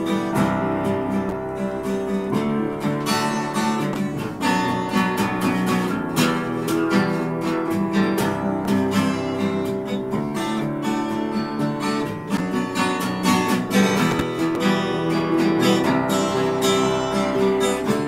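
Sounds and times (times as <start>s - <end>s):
acoustic guitar strumming: 0.0s - 18.0s
upright piano: 0.0s - 18.0s.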